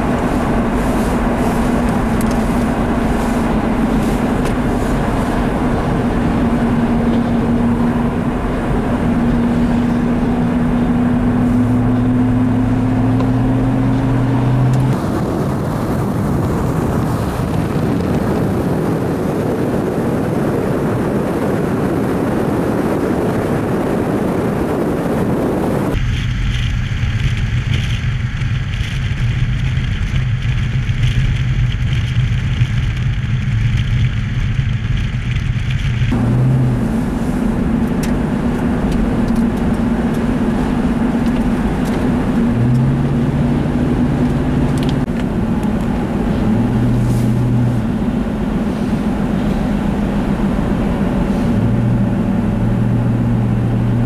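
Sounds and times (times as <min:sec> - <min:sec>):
truck engine drone: 0:00.0 - 0:54.0
tyre and road noise: 0:00.0 - 0:54.0.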